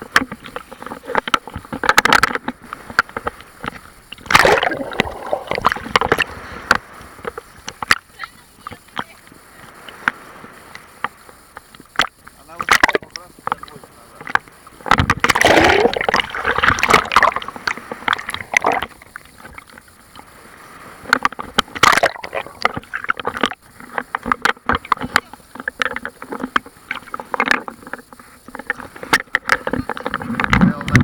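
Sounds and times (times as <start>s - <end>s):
sea waves splashing: 0.0s - 31.0s.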